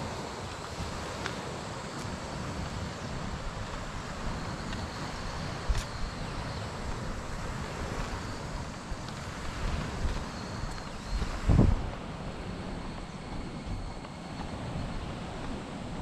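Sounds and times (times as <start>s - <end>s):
surf washing on shore: 0.0s - 16.0s
wind buffeting microphone: 0.0s - 16.0s.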